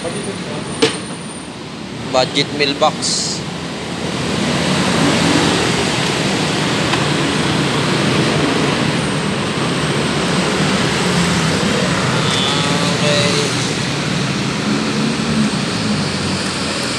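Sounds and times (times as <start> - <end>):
road traffic rumble: 0.0 - 16.9.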